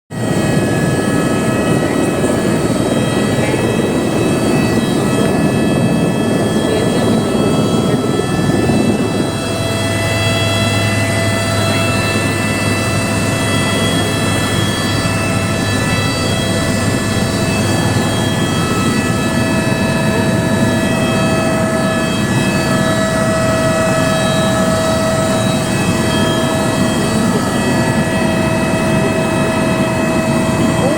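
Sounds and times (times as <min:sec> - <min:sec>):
helicopter engine and rotor: 0:00.1 - 0:30.9
high whine: 0:00.1 - 0:30.9.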